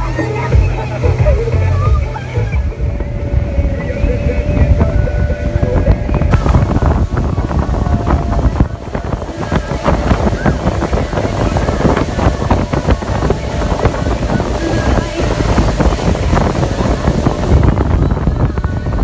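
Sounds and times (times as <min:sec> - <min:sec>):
boat engine rumble: 0:00.0 - 0:19.0
water rushing past hull: 0:00.0 - 0:19.0
wind buffeting microphone: 0:00.0 - 0:19.0.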